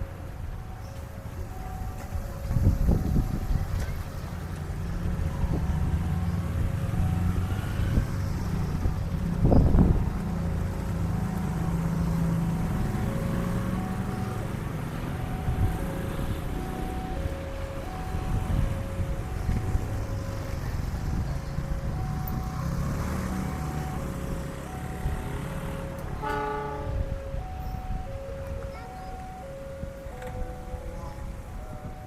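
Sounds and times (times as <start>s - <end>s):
train engine humming: 0.0s - 32.0s
wind buffeting microphone: 0.0s - 32.0s.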